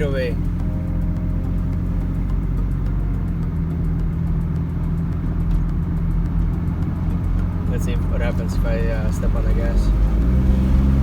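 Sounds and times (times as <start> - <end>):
truck engine droning in cab: 0.0 - 11.0.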